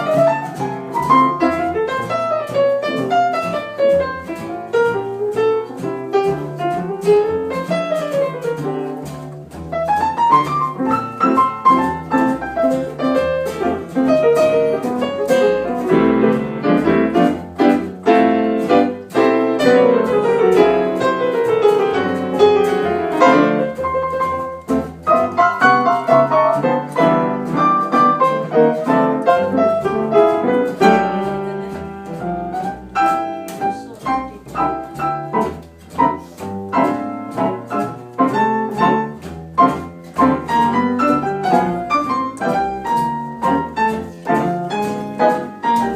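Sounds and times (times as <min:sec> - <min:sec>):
piano playing quick notes: 0:00.0 - 0:45.9.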